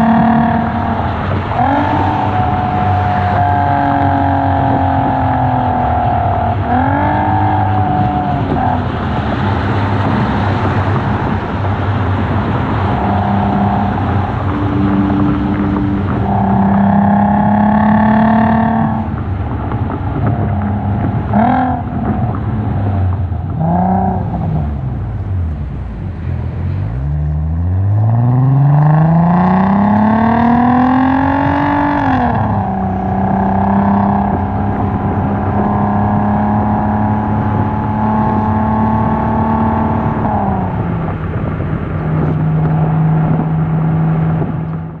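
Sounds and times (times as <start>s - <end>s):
car exhaust revving and cruising: 0.0s - 45.0s.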